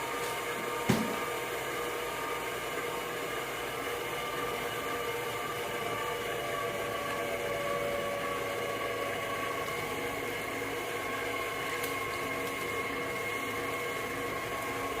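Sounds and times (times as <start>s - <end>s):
electric cake mixer running: 0.0s - 15.0s.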